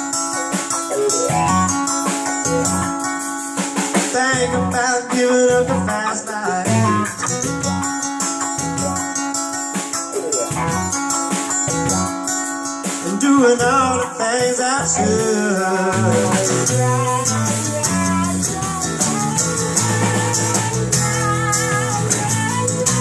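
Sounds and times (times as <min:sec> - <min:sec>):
wavering lead melody: 0:00.0 - 0:13.0, 0:13.7 - 0:23.0
drum kit with cymbals: 0:00.0 - 0:23.0
electric guitars: 0:00.0 - 0:23.0
strummed acoustic guitar: 0:00.0 - 0:23.0.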